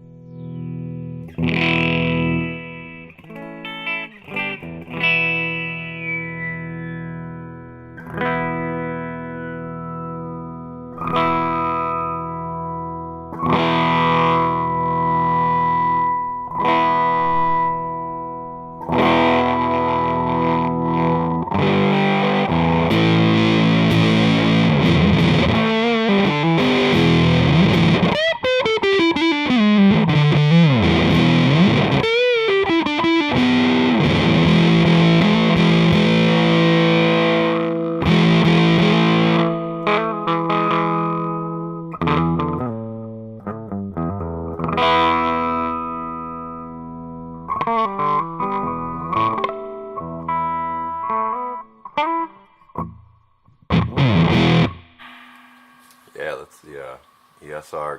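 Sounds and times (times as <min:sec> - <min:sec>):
fuzzy electric guitar chords: 0:00.0 - 0:57.5
guitar filter sweep: 0:00.0 - 0:57.9.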